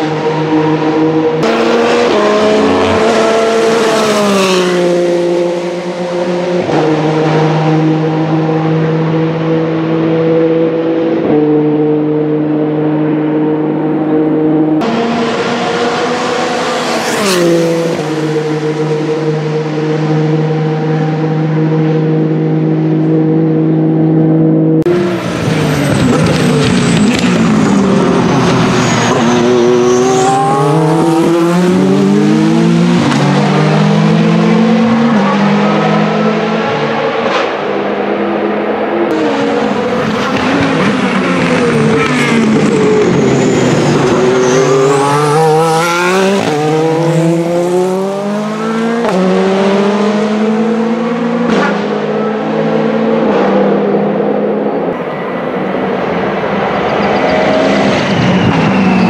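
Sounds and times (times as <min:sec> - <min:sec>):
racing car engine passing: 0:00.0 - 0:59.0.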